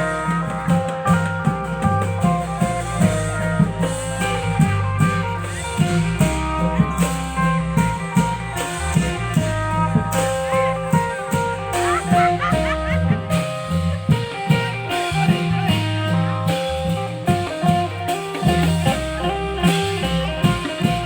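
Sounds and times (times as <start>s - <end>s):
plucked string melody: 0.0s - 21.0s
steady drum beat: 0.0s - 21.0s.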